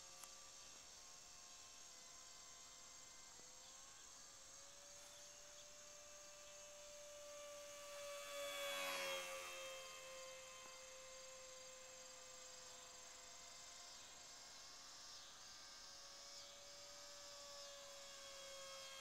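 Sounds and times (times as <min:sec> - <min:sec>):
model plane electric motor whining: 0:00.0 - 0:19.0.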